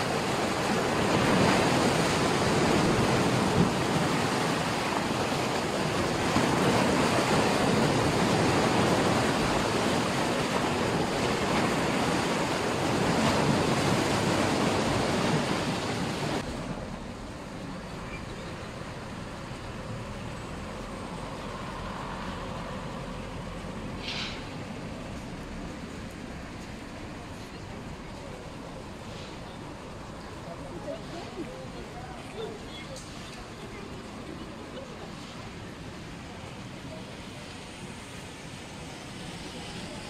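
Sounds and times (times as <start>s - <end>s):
sea surf washing ashore: 0.0s - 40.0s.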